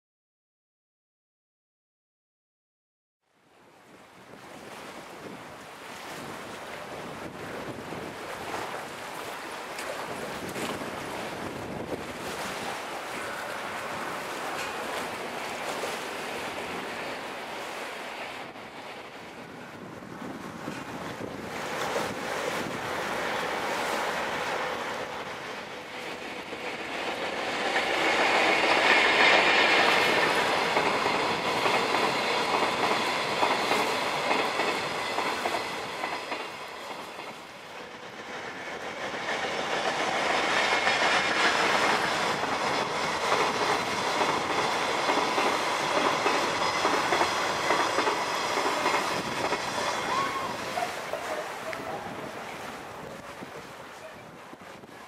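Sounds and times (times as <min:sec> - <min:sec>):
train wheels clickety-clack on bridge: 0:04.3 - 0:55.0.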